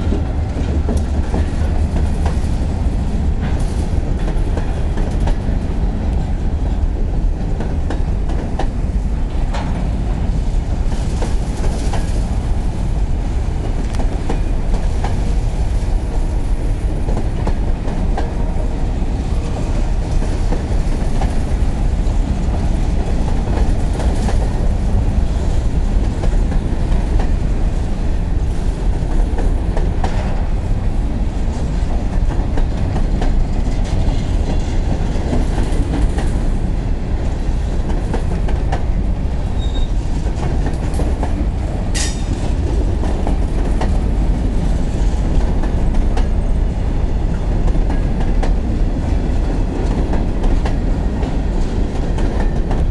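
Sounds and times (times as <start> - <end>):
clickety-clack over rail joints: 0.0 - 52.9
freight train wheels rumbling on rail: 0.0 - 52.9.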